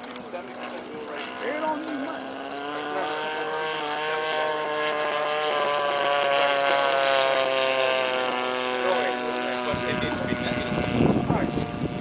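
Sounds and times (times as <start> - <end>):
model plane engine droning: 0.0 - 12.0.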